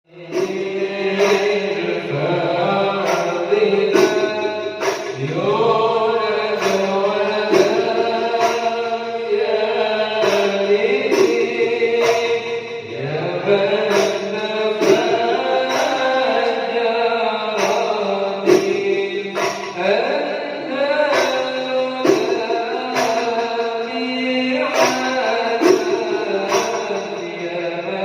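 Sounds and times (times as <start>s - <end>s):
percussion strikes: 0.1s - 28.0s
person singing devotional song: 0.1s - 28.0s.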